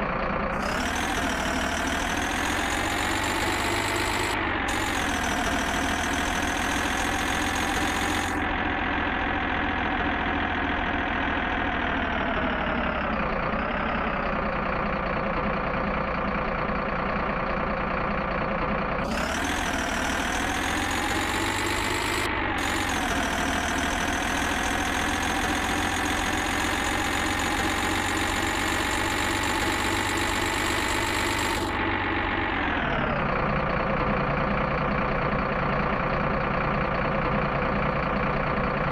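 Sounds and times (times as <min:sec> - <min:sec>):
machine engine running: 0:00.0 - 0:38.9.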